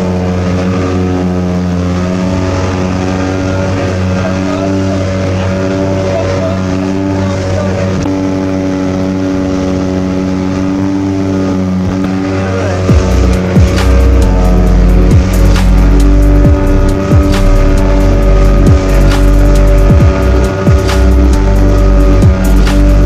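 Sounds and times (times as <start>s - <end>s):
speedboat engine running: 0.0s - 23.0s.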